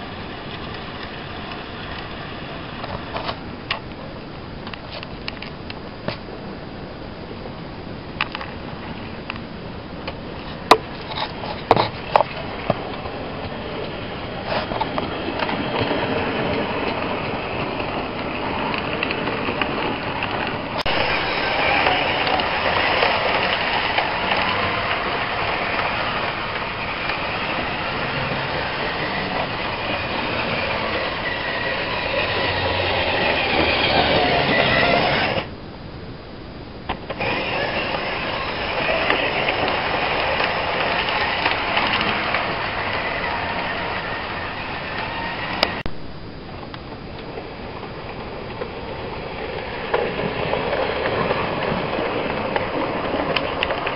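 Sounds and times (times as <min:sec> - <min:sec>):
model train running on track: 0:00.0 - 0:35.5, 0:37.1 - 0:45.9, 0:46.5 - 0:53.9.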